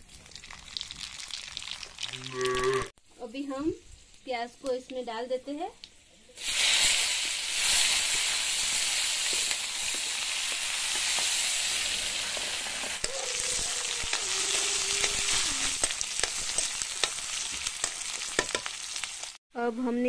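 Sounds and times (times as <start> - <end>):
onions sizzling in hot oil: 0.0 - 19.4.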